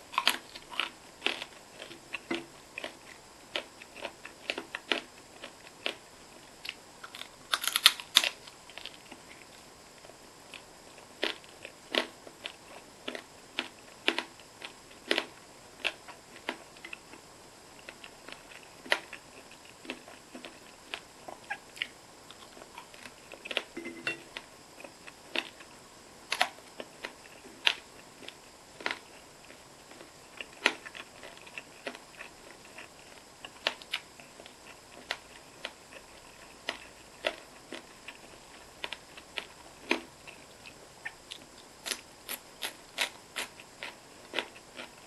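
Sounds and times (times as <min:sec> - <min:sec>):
chewing and biting: 0:00.1 - 0:45.0.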